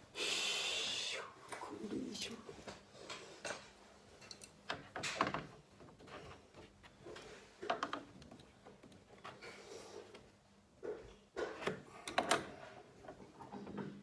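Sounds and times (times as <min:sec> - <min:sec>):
knocks and clatters of handling: 0:02.6 - 0:14.0.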